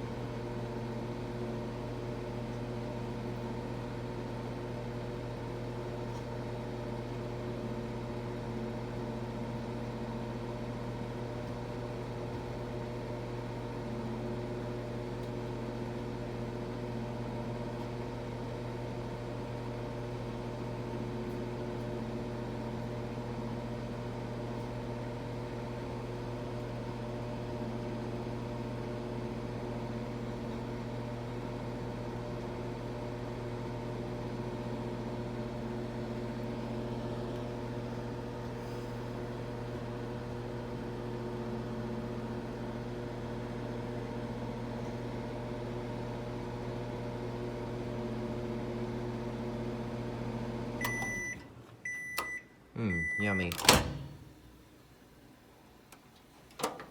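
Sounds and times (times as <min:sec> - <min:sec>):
microwave oven humming: 0:00.0 - 0:56.9.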